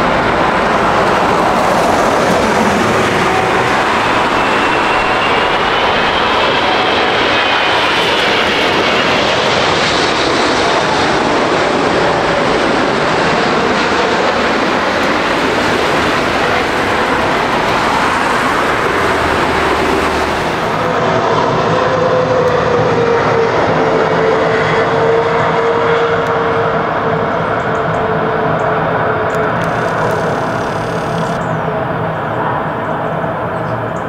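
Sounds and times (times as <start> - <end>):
jet engine noise: 0.0 - 34.0
jet engine whine: 0.0 - 34.0.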